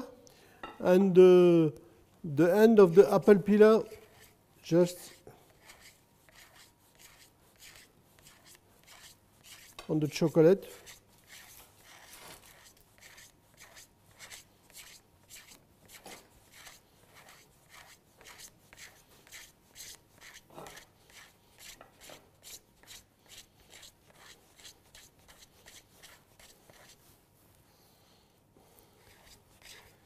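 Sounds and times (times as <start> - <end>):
peeler rasping on chocolate: 3.0 - 9.8, 10.6 - 27.0, 29.0 - 30.0.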